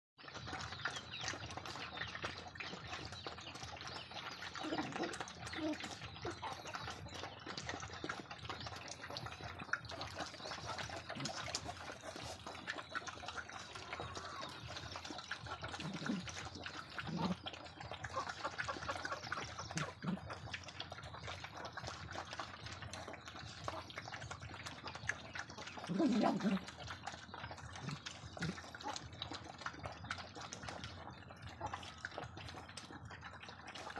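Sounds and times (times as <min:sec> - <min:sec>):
dogs lapping and slurping: 0:00.2 - 0:33.9.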